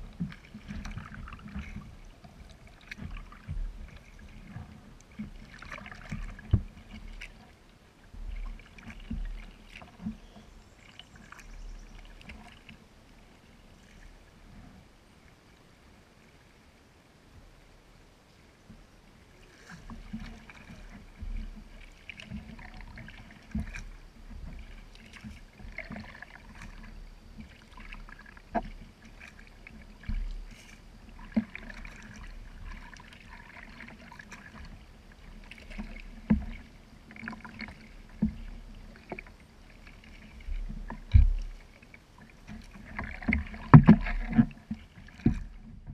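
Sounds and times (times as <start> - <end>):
paddle strokes splashing water: 0.0 - 16.8, 18.3 - 45.9.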